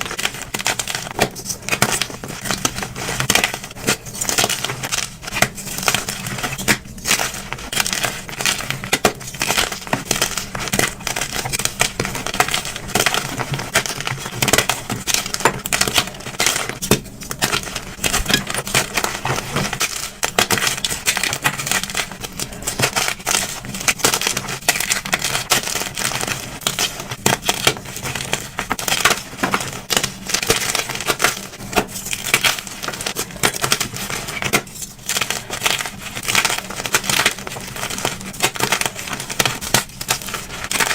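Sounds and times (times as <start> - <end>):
chalk being crushed: 0.0 - 40.9.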